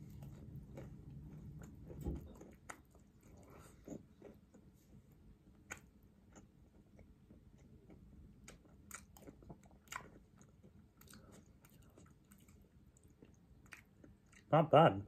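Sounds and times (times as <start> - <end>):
faint crunchy chewing: 0.0 - 14.5.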